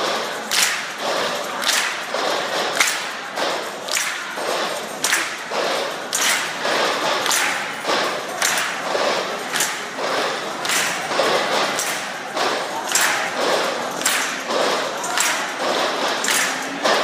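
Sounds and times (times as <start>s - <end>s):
group drumming in unison: 0.0s - 17.0s.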